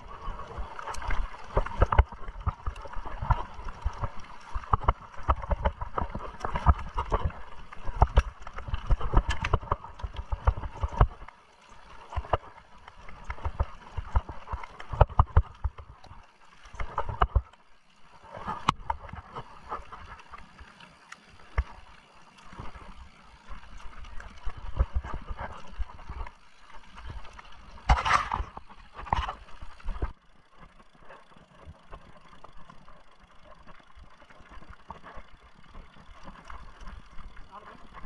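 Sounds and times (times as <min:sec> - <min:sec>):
bike knocking and rattling: 0:00.0 - 0:17.6, 0:18.3 - 0:20.5, 0:22.4 - 0:38.0
bike tyres on dirt and stones: 0:00.0 - 0:38.0.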